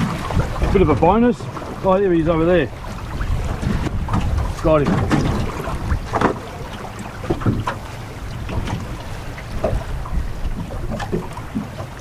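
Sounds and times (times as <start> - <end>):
knocks and splashes: 0.0 - 12.0
water lapping against boat hull: 0.0 - 12.0
wind rumbling on microphone: 0.0 - 12.0.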